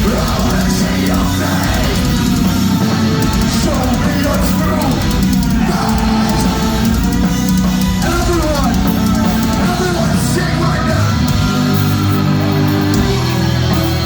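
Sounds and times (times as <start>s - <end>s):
metal band playing loud: 0.0s - 14.0s.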